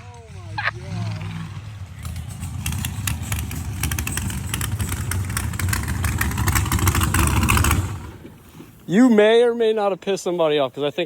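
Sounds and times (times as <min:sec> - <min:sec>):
truck engine idling: 0:00.0 - 0:09.0
engine crackling: 0:00.0 - 0:09.3.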